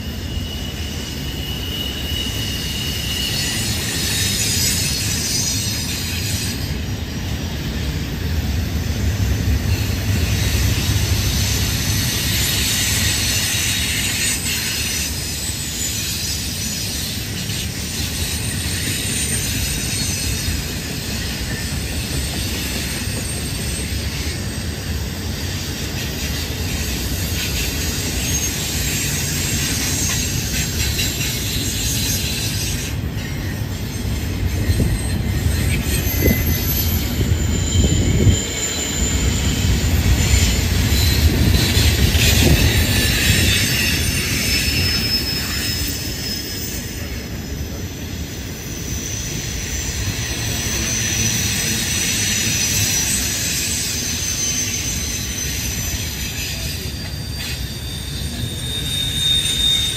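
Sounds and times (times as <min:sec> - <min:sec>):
high-pitched wheel squeal: 0:00.0 - 0:07.1, 0:09.7 - 0:59.9
steel wheels rumbling on rail: 0:00.0 - 0:59.9.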